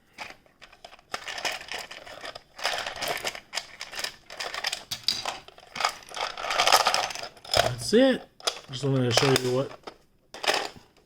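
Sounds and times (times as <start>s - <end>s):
plastic toys clattering: 0.1s - 11.0s.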